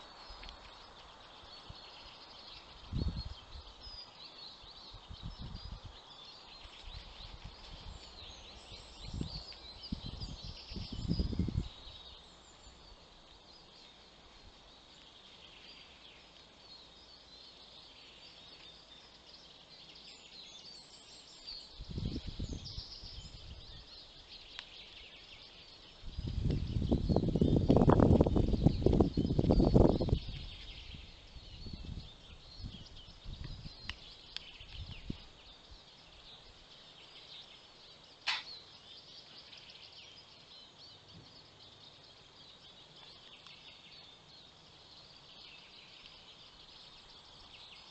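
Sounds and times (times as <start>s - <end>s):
songbirds chirping and trilling: 0.0s - 47.9s.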